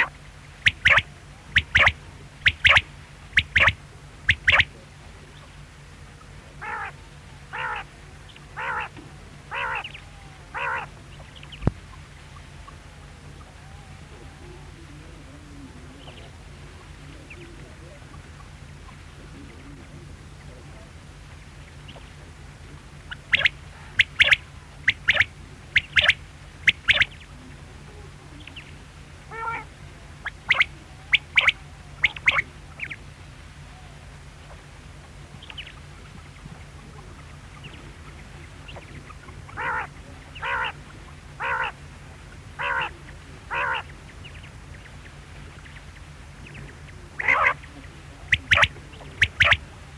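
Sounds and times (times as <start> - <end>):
quail calling: 0.0 - 4.8, 6.2 - 19.9, 23.0 - 33.1, 33.7 - 49.9
steady low hum: 0.0 - 49.9.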